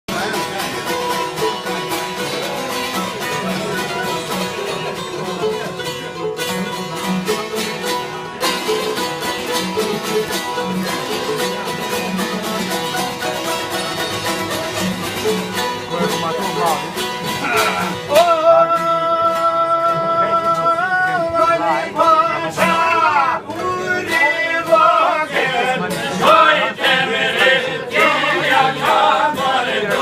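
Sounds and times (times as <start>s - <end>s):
plucked string folk music: 0.1s - 30.0s.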